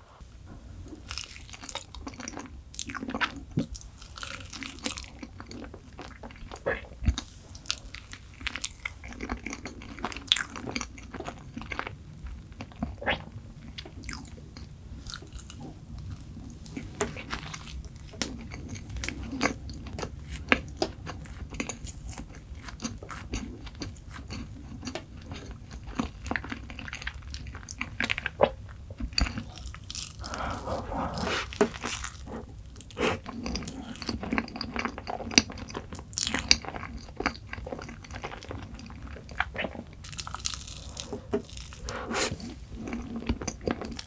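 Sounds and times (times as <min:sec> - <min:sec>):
chewing and crunching sweets: 0:00.8 - 0:44.0.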